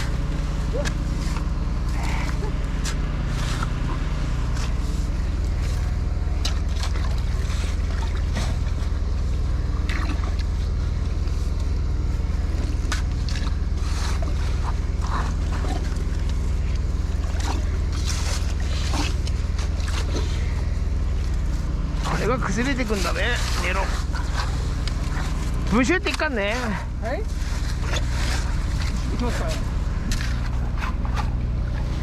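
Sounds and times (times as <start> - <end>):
machine engine droning: 0.0 - 32.0.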